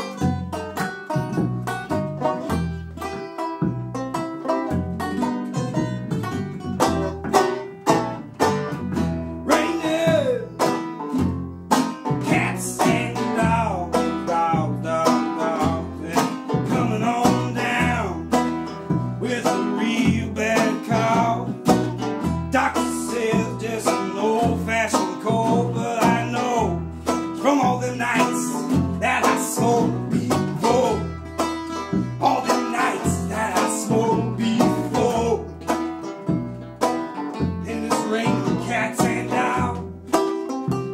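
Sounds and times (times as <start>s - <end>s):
acoustic guitar: 0.0s - 40.9s
banjo: 0.0s - 40.9s.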